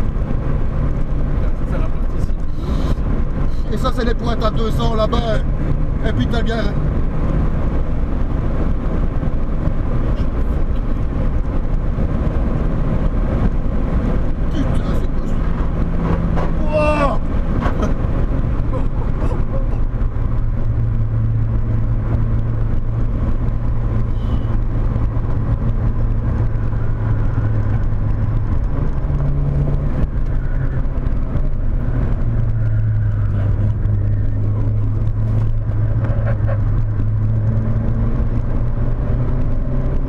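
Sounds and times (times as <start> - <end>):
car engine droning: 0.0 - 40.0
tyre and road noise: 0.0 - 40.0.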